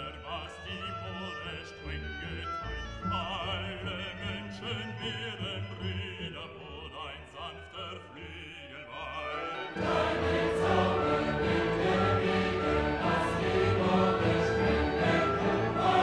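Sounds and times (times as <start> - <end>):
classical-style accompaniment: 0.0 - 16.0.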